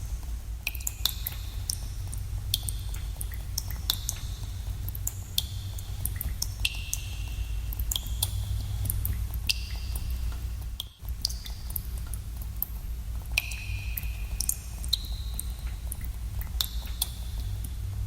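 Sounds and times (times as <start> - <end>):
water drops plinking in cave: 0.6 - 18.0.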